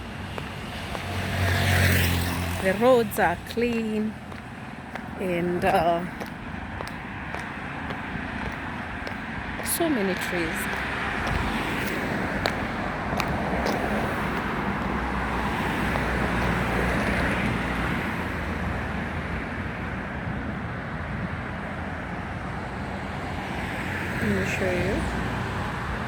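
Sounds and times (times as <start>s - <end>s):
cars passing on road: 0.0s - 26.0s.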